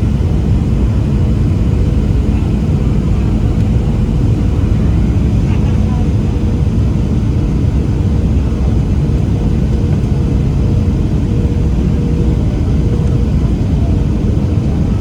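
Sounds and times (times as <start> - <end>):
aircraft engines and airflow rumble: 0.0 - 15.0.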